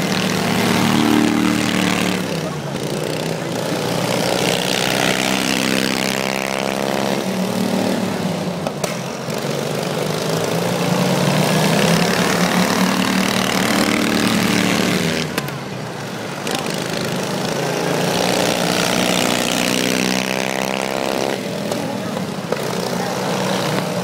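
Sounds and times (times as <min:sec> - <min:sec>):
lawn mower engines racing past: 0:00.0 - 0:24.0.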